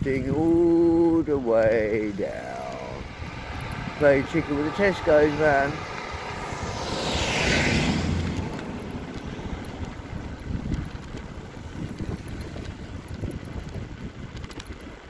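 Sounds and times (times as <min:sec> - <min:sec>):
wind buffeting microphone: 0:00.0 - 0:15.0
van passing: 0:01.1 - 0:14.1.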